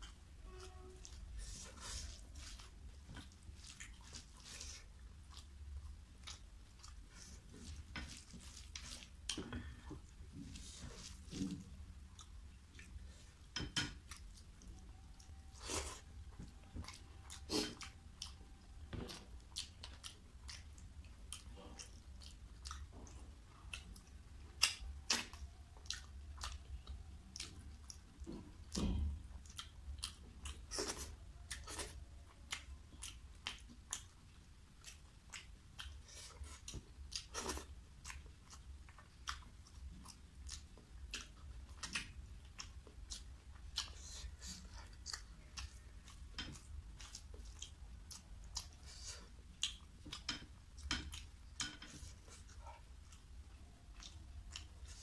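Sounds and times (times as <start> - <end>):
chewing and mouth smacks: 0.0 - 55.0.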